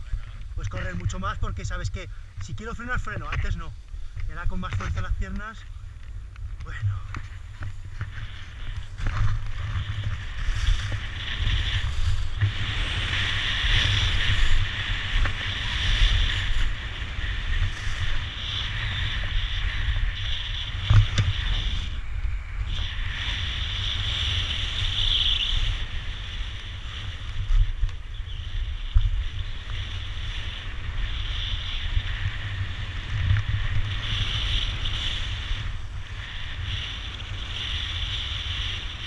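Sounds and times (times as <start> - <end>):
skis scraping on snow: 0.0 - 39.0
wind rumble on microphone: 0.0 - 39.0.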